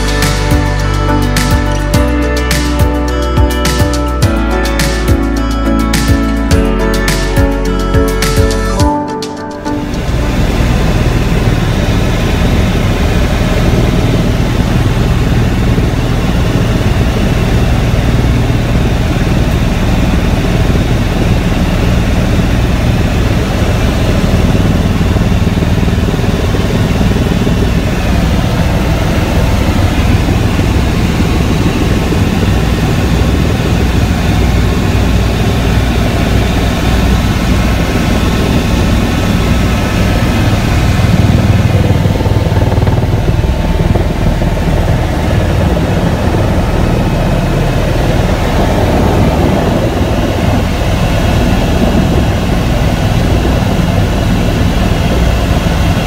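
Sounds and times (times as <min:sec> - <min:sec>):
helicopter low drone: 0:00.0 - 0:56.0.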